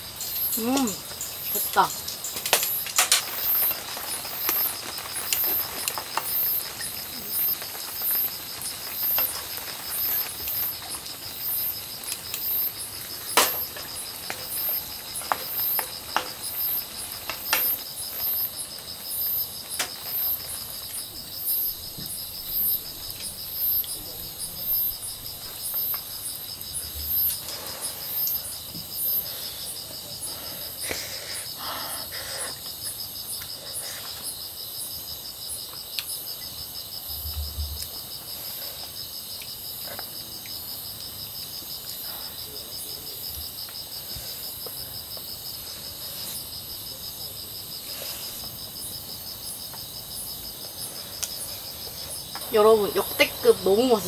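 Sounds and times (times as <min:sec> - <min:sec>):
crickets trilling: 0:00.0 - 0:54.0
loud high insect chirp: 0:00.0 - 0:54.0.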